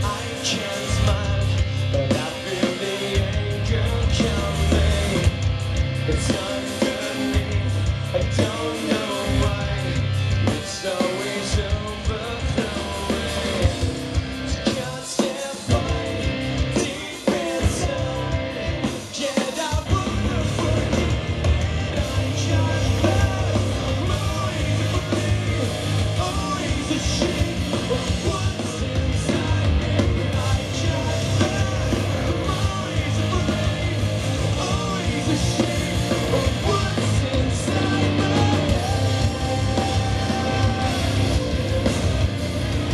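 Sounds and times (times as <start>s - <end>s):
man singing: 0.0s - 5.4s, 6.0s - 42.3s
rock band playing: 0.0s - 42.9s.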